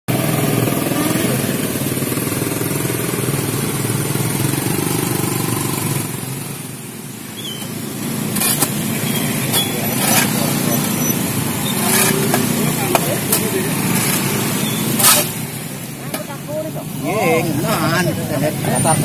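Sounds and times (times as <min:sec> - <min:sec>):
motor scooters passing: 0:00.1 - 0:19.0.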